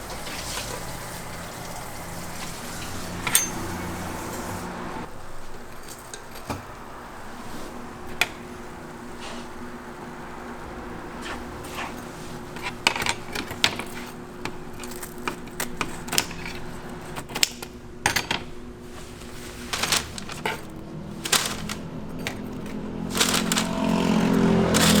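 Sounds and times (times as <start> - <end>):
kitchen equipment hum: 0.0 - 25.0.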